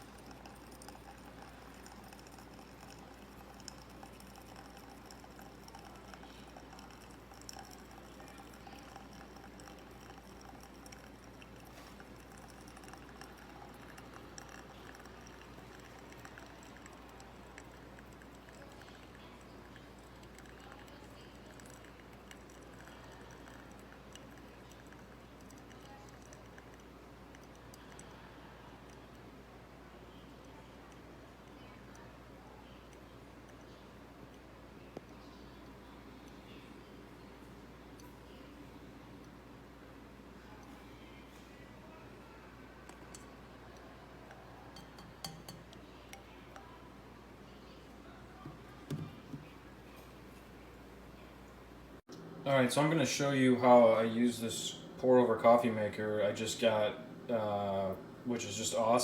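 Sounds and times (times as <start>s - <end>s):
faint hiss and hum: 0.0s - 59.0s.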